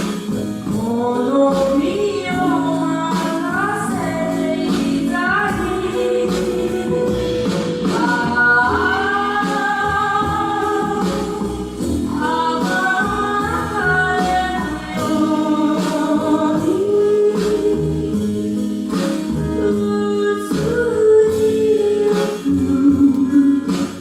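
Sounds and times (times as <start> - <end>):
bass guitar and percussion: 0.0 - 24.0
woman singing slow song: 0.6 - 18.6, 19.2 - 24.0.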